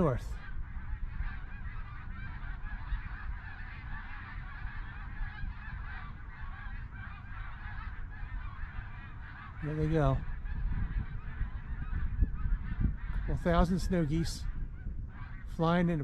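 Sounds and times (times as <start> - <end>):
flock of geese honking: 0.0 - 16.0.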